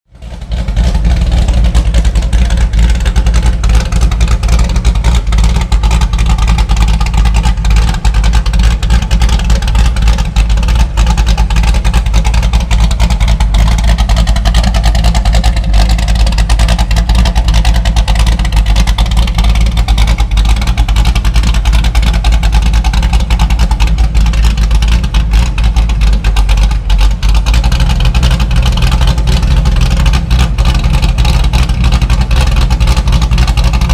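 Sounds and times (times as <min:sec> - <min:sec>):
engine rumbling: 0:00.0 - 0:33.9.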